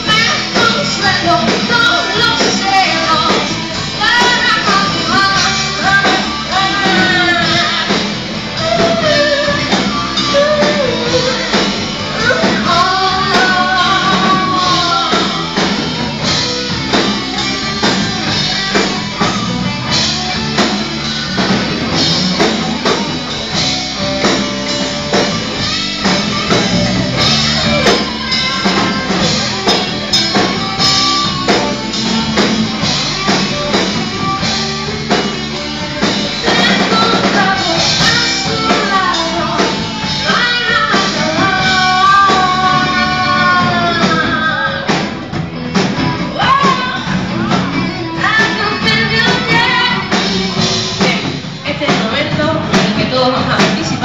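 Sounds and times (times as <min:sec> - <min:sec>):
woman singing: 0:00.0 - 0:19.4, 0:26.7 - 0:45.2, 0:46.0 - 0:54.0
live rock band: 0:00.0 - 0:54.0.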